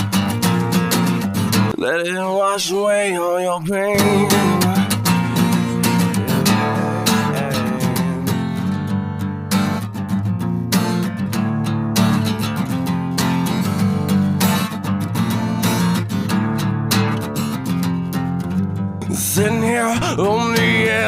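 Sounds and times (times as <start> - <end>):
strummed acoustic guitar chords: 0.0 - 21.0.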